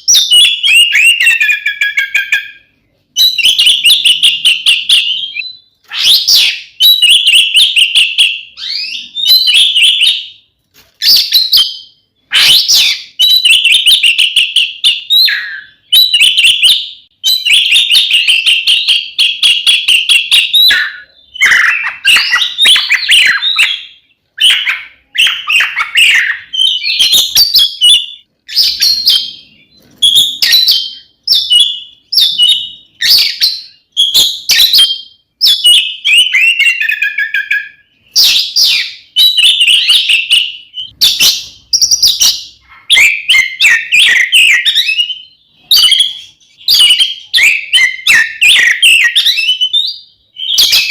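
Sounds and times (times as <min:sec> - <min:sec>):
bird singing whistled phrases: 0:00.0 - 0:10.4, 0:11.0 - 0:50.9.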